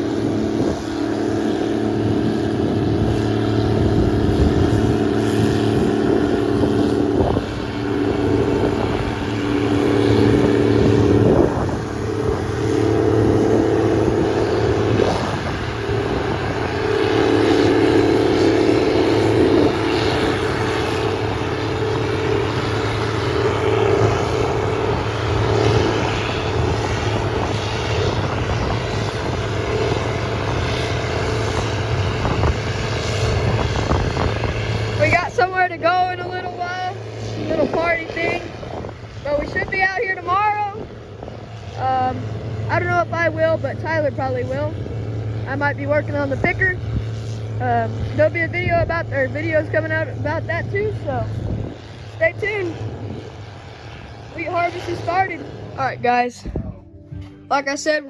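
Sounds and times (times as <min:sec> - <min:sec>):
diesel engine drone: 0:00.0 - 0:58.0
whining machine tones: 0:00.0 - 0:58.0.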